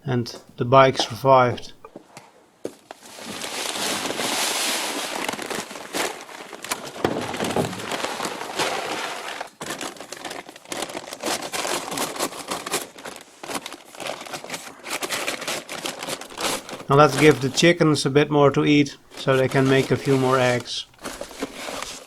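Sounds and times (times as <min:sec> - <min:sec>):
bag crinkling and rustling: 0:03.0 - 0:22.0.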